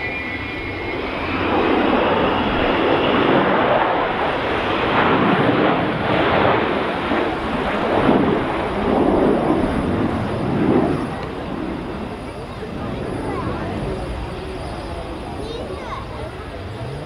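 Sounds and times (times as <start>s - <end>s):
jet aircraft roar: 0.0s - 17.0s.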